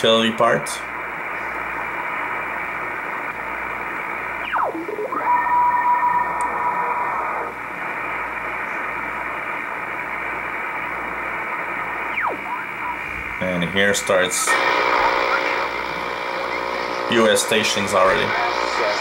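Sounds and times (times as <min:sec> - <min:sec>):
radio band noise hiss: 0:00.0 - 0:19.0
steady radio tone: 0:00.4 - 0:19.0.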